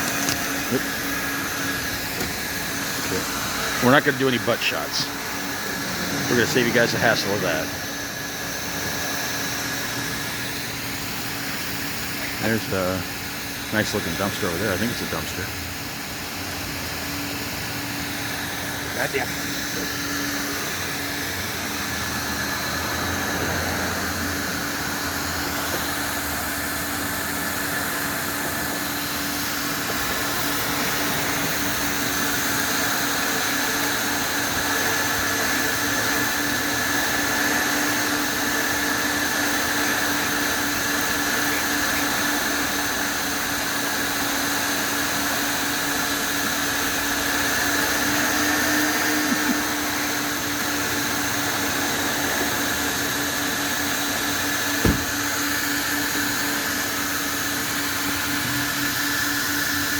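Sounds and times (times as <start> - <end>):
car wash vacuum running: 0.0 - 59.9.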